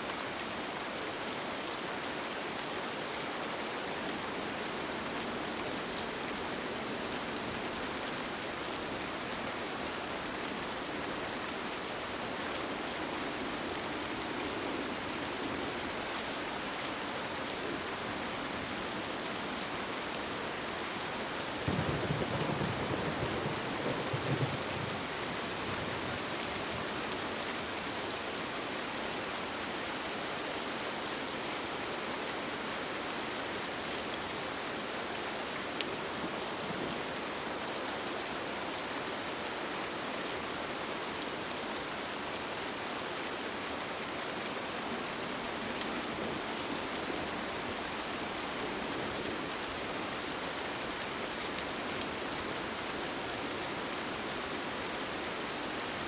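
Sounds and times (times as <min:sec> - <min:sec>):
rain falling on a tent: 0:00.0 - 0:56.0.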